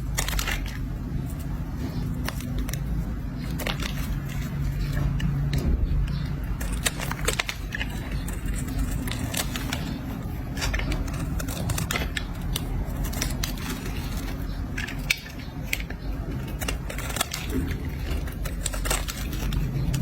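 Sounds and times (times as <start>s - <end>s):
blade scraping soap: 0.0s - 20.0s.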